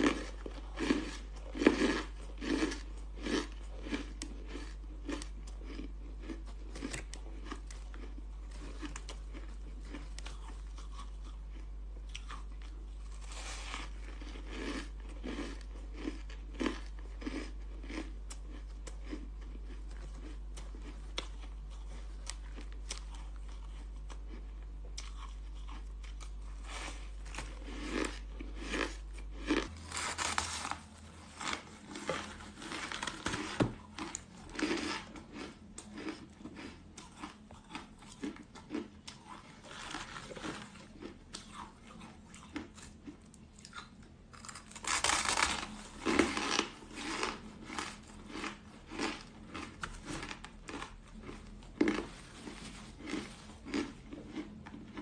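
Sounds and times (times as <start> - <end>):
crunching and chewing ice: 0.0 - 55.0
steady low hum: 0.0 - 55.0.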